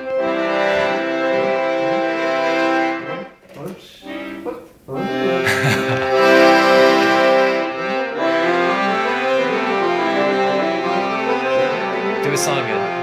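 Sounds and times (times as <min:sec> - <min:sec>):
accordion playing chords: 0:00.0 - 0:03.4, 0:04.0 - 0:13.0.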